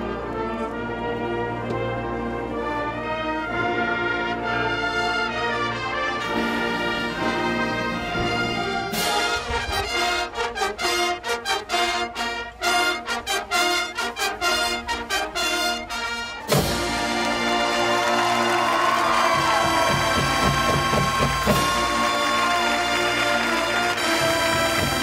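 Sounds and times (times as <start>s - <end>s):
marching band brass and percussion: 0.0s - 25.0s.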